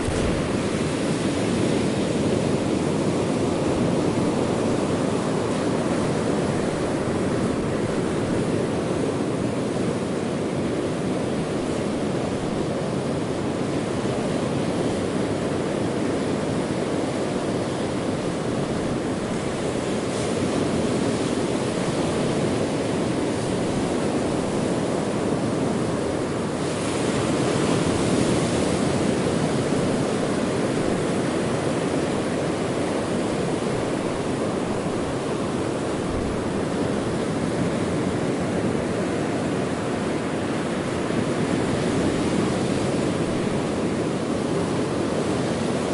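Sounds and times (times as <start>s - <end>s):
ocean waves washing in: 0.0s - 45.9s.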